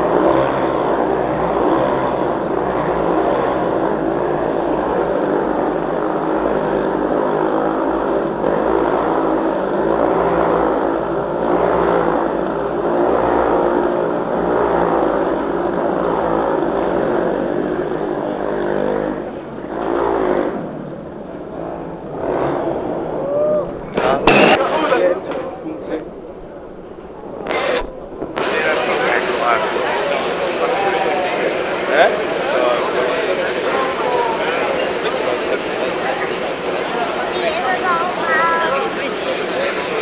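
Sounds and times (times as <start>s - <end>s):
motorcycle engines revving high: 0.0s - 40.0s.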